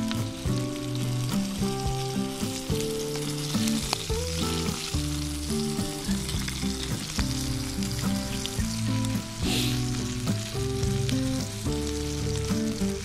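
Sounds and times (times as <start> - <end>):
deep-frying sizzling crackle: 0.0 - 13.0
small oil pops: 0.1 - 12.8.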